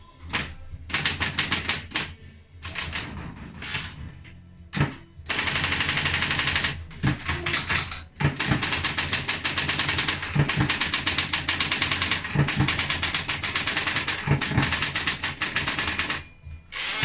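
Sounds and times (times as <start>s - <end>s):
typewriter keystrokes: 0.3s - 4.0s, 4.8s - 16.2s.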